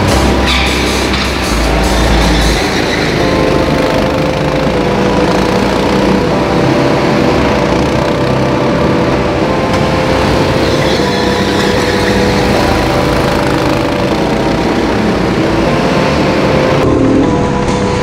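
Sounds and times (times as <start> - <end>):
go-kart engines droning: 0.0 - 18.0.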